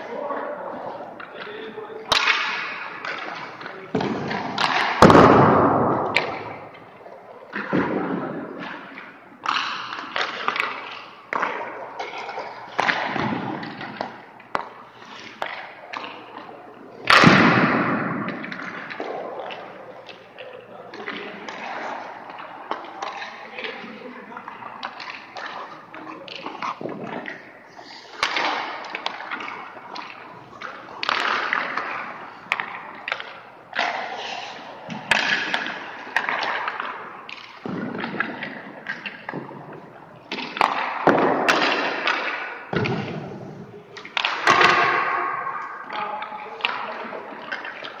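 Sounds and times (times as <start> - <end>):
pucks striking pads and boards: 0.8 - 48.0.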